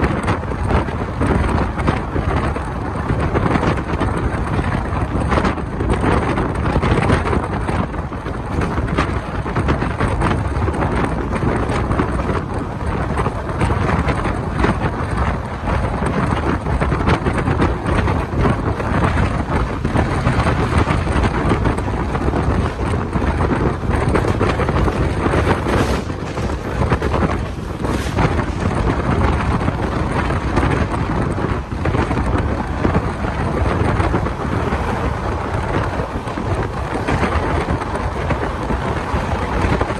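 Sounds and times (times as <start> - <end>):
train running on track: 0.0 - 39.9
wind noise on microphone: 0.0 - 39.9.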